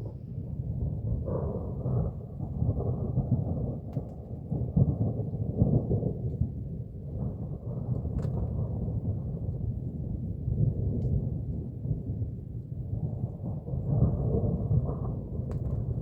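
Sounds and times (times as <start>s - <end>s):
rolling thunder: 0.2s - 16.0s.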